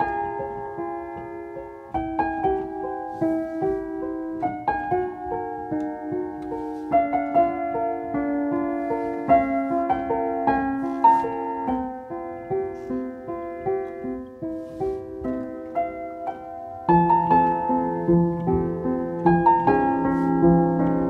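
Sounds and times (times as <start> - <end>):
piano notes and chords: 0.0 - 21.0.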